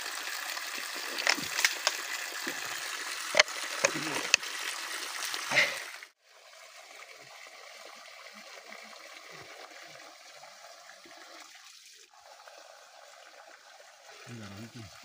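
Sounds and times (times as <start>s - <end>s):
water trickling from a spout: 0.0s - 15.0s.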